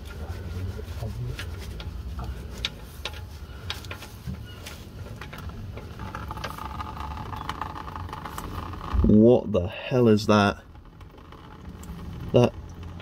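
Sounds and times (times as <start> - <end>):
drain plug clicking and scraping: 1.3 - 9.1, 10.0 - 13.0.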